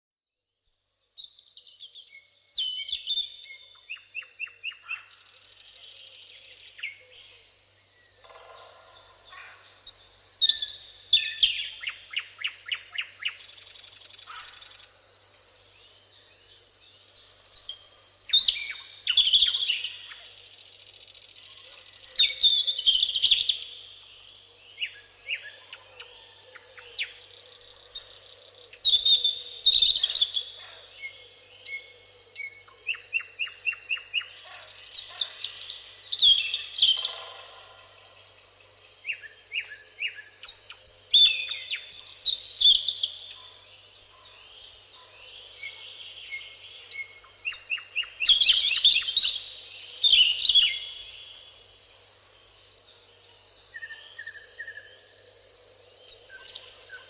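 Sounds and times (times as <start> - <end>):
songbirds singing and calling: 0.7 - 57.0
high insect drone: 5.1 - 57.0.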